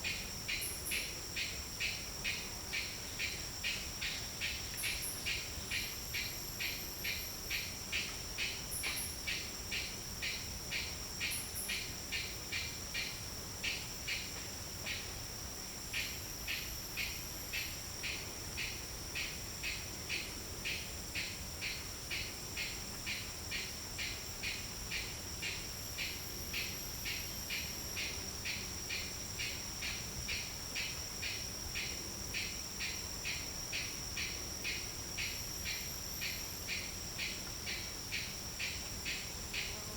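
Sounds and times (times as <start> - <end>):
insect chirping: 0.0 - 39.9
insect drone: 0.0 - 39.9.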